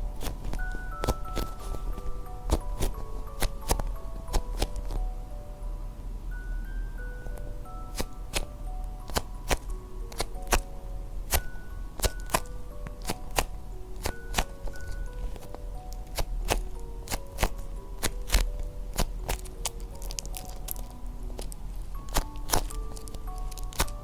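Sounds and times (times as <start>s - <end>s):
light melody music: 0.0s - 24.0s
sharp clicks and taps: 0.2s - 5.0s, 7.3s - 10.7s, 11.3s - 24.0s.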